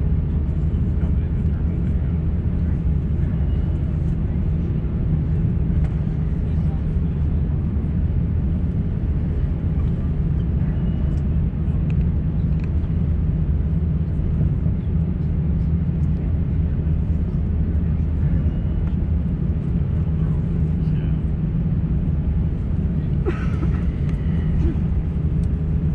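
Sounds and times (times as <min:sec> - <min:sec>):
airplane cabin drone: 0:00.0 - 0:25.9.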